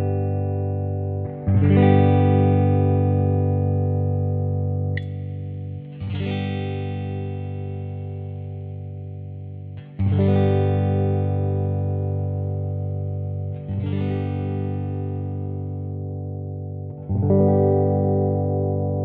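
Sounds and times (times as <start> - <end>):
electric guitar chord strummed: 0.0 - 19.0.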